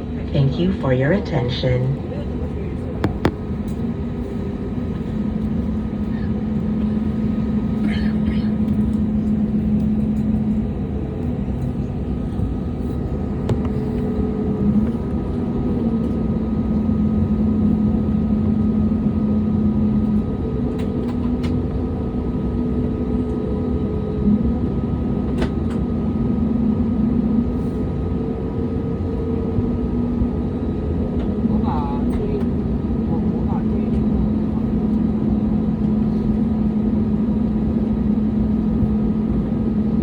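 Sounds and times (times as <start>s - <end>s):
airliner cabin hum: 0.0s - 40.0s.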